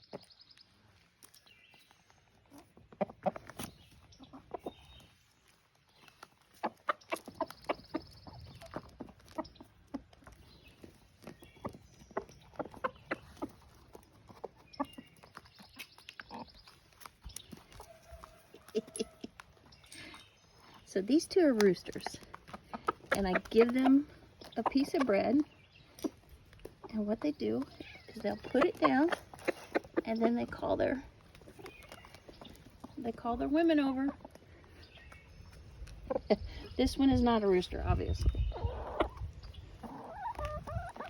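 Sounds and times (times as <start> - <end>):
chickens: 0.0 - 41.0
roosters clucking: 0.0 - 41.0.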